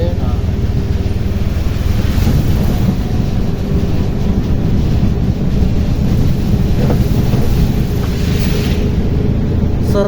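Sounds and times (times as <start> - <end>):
motor rickshaw engine: 0.0 - 10.0
road noise: 0.0 - 10.0
wind buffeting microphone: 0.0 - 10.0.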